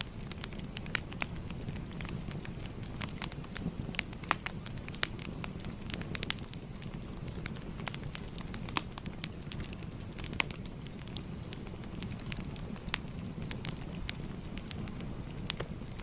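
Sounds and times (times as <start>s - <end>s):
low rumble of burning: 0.0s - 16.0s
wood fire pops and snaps: 0.0s - 16.0s.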